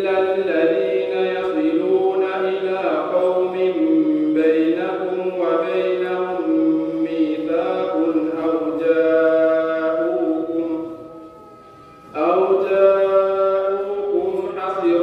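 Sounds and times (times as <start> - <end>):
man chanting recitation: 0.0 - 11.4, 12.1 - 15.0.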